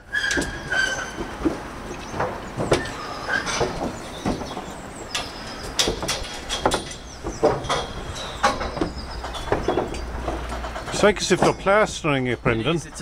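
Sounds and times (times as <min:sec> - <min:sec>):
knocks and clatter on scaffold: 0:00.2 - 0:12.1.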